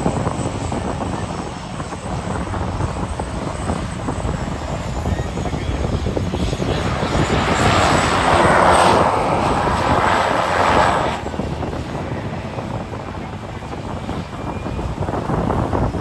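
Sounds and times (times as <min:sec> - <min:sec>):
aircraft passing low overhead: 0:00.0 - 0:16.0
wind rumble on microphone: 0:00.0 - 0:16.0.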